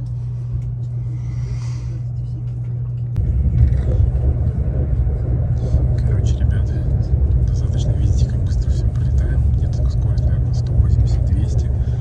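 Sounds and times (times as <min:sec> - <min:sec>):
electric train rumble from inside: 0:00.0 - 0:12.0.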